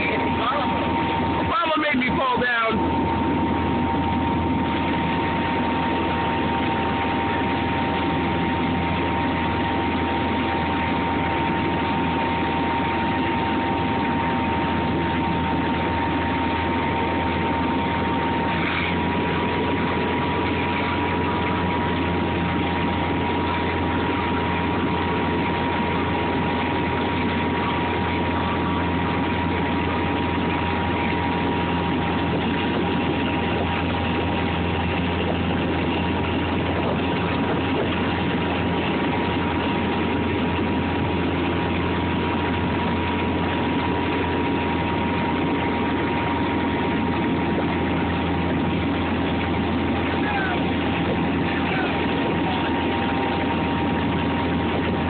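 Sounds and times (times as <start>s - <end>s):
motorboat engine running: 0.0s - 55.0s
steady high whine: 0.0s - 55.0s
water rushing: 0.0s - 55.0s
wind: 0.0s - 55.0s.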